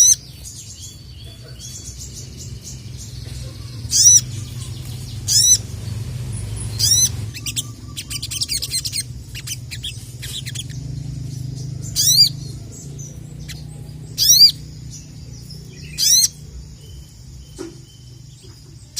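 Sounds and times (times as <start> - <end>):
sunbird calls: 0.0 - 18.9.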